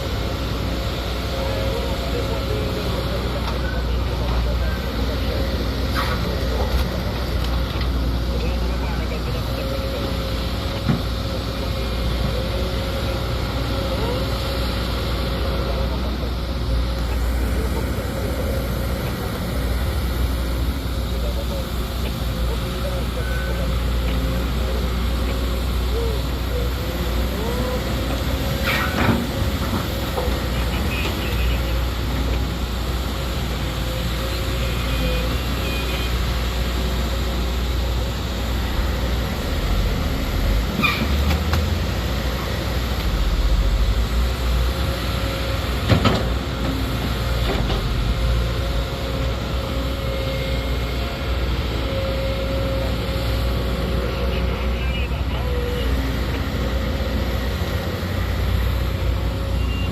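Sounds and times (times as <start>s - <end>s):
excavator engine and hydraulics humming: 0.0s - 59.9s.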